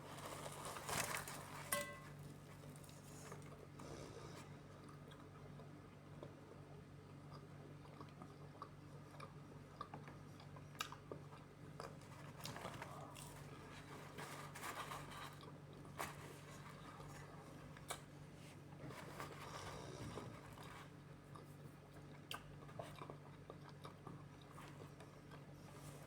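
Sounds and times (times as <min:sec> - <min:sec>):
person chewing food: 0:02.6 - 0:14.2, 0:15.3 - 0:26.0.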